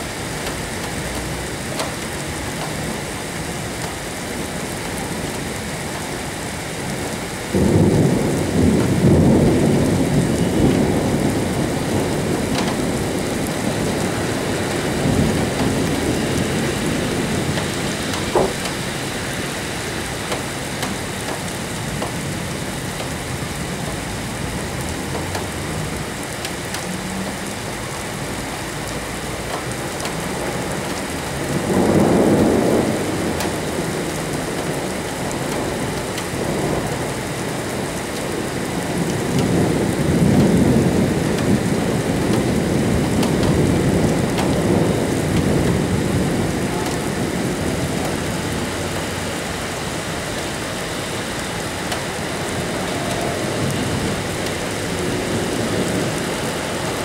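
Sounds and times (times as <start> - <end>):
steady rain: 0.0 - 57.0
thunder rumbling: 0.1 - 57.0.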